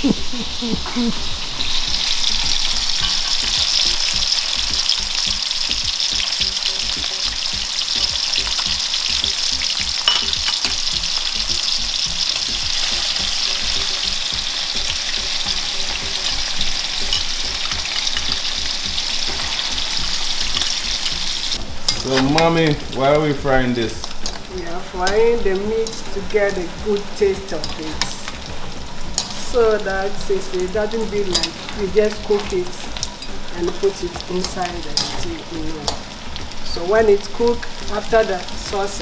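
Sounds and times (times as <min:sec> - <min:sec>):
meat deep-frying in hot oil: 0:00.0 - 0:39.0.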